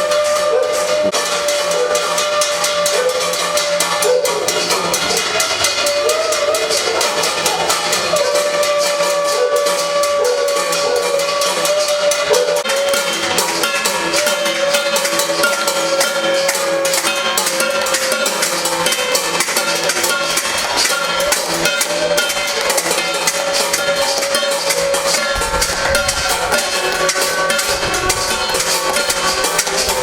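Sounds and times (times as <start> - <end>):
bells ringing: 0.0 - 30.0
metal plates beaten: 0.0 - 30.0.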